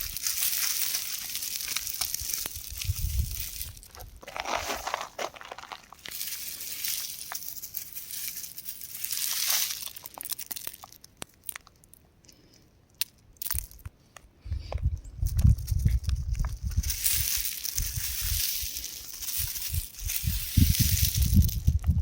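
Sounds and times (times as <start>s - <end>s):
rock crumbling and crunching: 0.0s - 12.0s, 12.9s - 13.9s, 15.2s - 22.0s.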